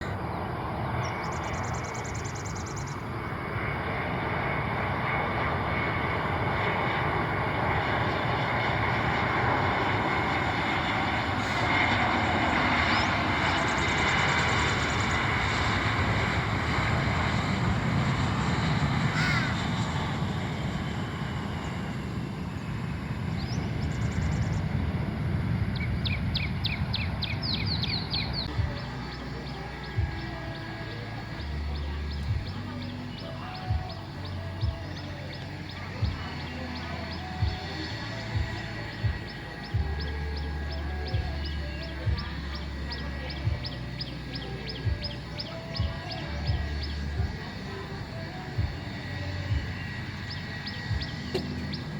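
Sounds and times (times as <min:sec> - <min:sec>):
airliner engines roaring: 0:00.0 - 0:51.9.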